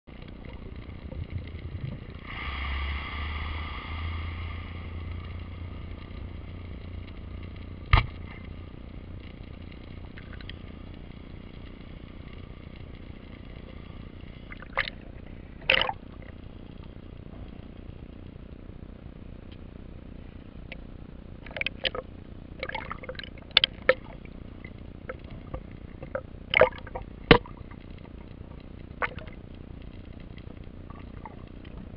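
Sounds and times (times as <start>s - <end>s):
underwater boat motor hum: 0.1s - 31.9s.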